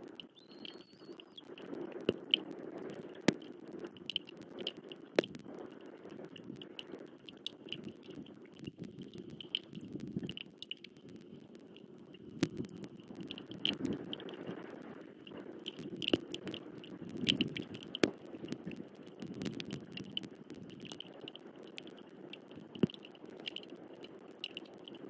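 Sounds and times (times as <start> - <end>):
raindrops tapping on camera: 0.0 - 25.0.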